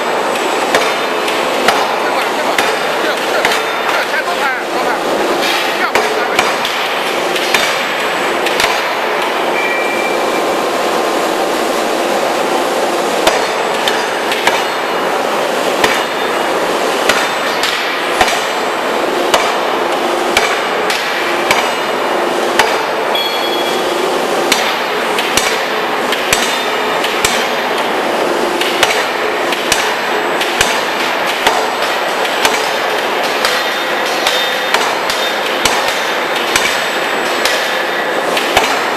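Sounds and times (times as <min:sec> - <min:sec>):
loud machinery noise: 0:00.0 - 0:38.9.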